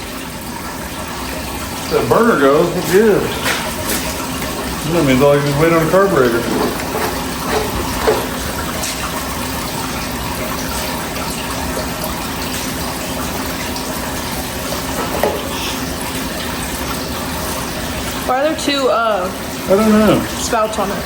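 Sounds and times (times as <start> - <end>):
pressure washer water rushing: 0.0 - 21.0.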